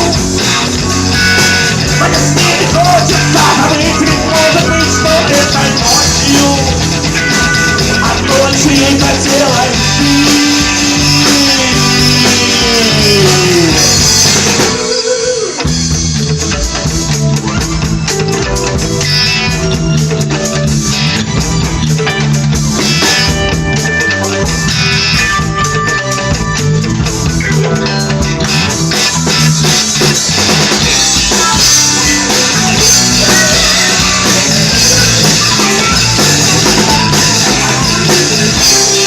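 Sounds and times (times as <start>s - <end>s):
electric guitar lead with bending notes: 0.0s - 39.0s
live rock band playing: 0.0s - 39.0s
strummed guitar: 0.0s - 39.0s.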